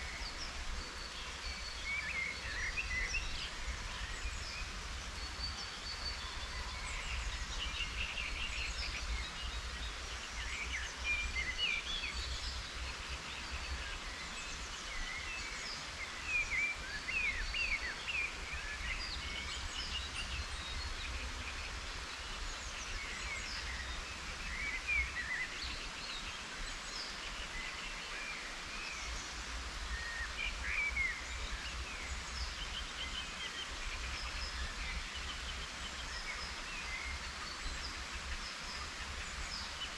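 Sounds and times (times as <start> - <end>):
songbirds chirping and singing: 0.0 - 39.9
steady outdoor hiss: 0.0 - 39.9.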